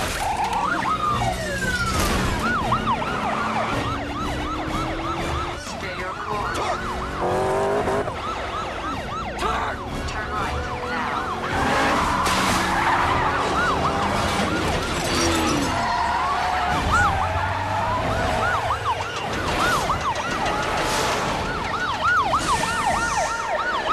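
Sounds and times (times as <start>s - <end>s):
car engines din: 0.0s - 23.9s
police sirens wailing: 0.0s - 23.9s.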